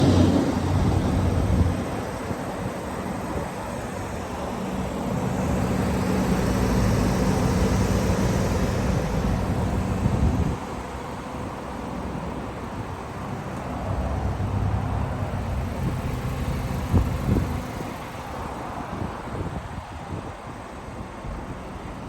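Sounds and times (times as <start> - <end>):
car engine rumble: 0.0 - 22.0.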